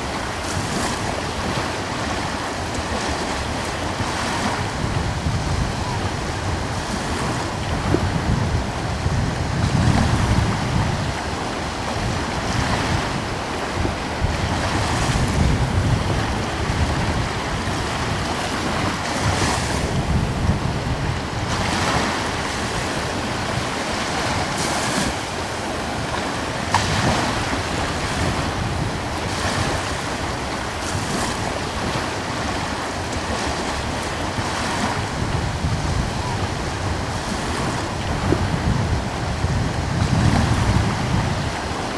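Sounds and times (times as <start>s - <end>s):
ocean waves washing in: 0.0s - 41.9s
wind buffeting microphone: 0.0s - 41.9s.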